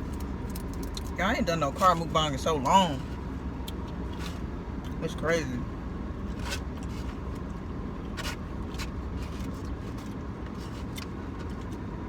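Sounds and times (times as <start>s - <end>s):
car idling from inside cabin: 0.0s - 12.0s.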